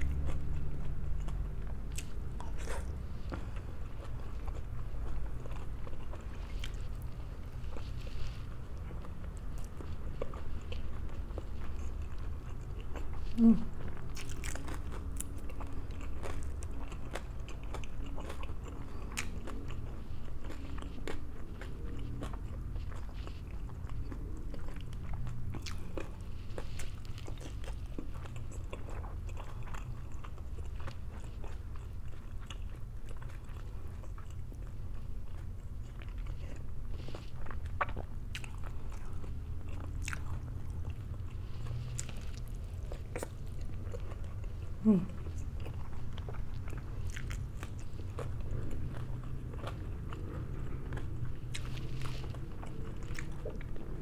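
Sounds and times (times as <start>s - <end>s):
person crunching and chewing food: 0.0s - 54.0s
steady low hum: 0.0s - 54.0s.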